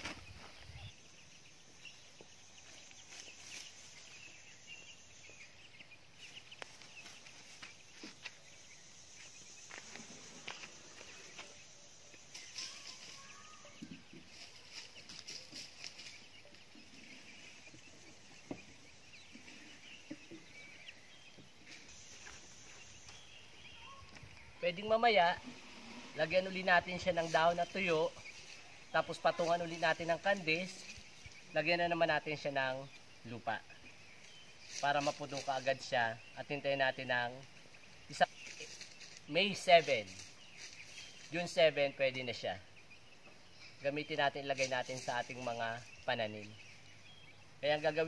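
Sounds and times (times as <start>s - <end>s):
chickens clucking: 0.0s - 48.0s
small bird chirps: 0.0s - 48.0s.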